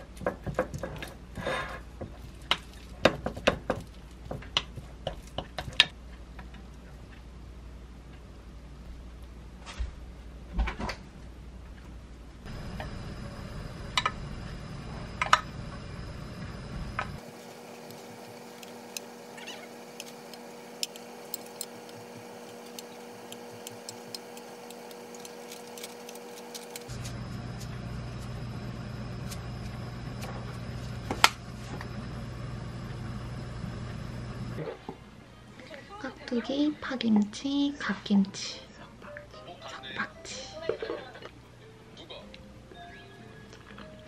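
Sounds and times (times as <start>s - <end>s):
room hum: 0.0s - 44.0s.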